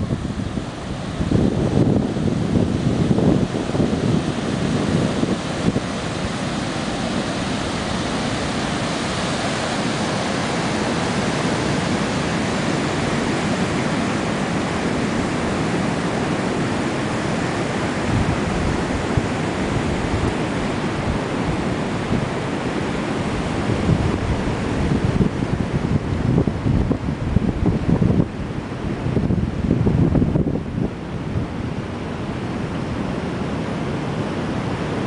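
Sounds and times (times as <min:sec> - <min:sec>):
ocean surf breaking: 0:00.0 - 0:35.0
wind buffeting microphone: 0:00.0 - 0:35.0.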